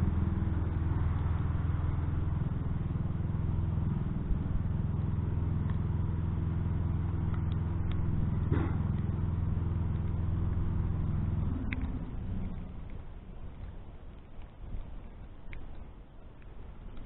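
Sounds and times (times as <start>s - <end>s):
garden tractor engine running: 0.0s - 17.0s.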